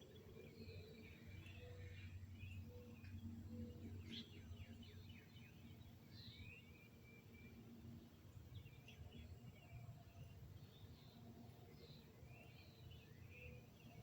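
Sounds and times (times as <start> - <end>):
low steady hum: 0.0 - 14.0
songbird chirping: 0.0 - 14.0.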